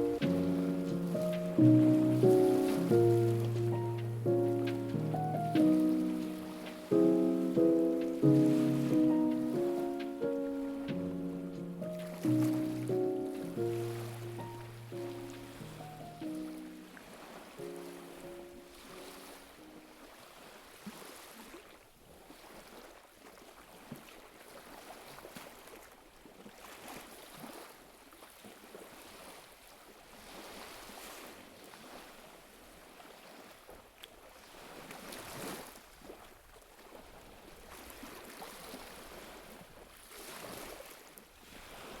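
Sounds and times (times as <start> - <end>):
water lapping and splashing: 0.0 - 42.0.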